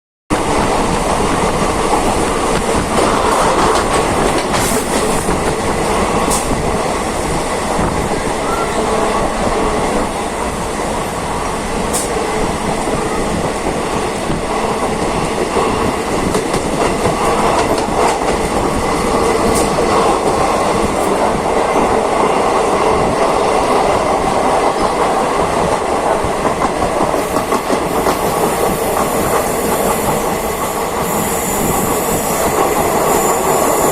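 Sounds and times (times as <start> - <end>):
train wheels on rails: 0.3 - 33.9.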